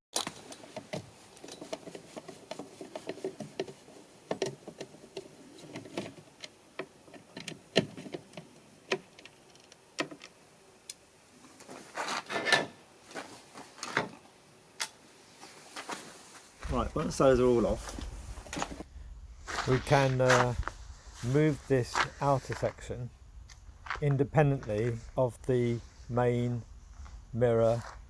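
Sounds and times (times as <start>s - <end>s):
scraping and handling noise: 0.2s - 10.4s, 11.4s - 28.0s.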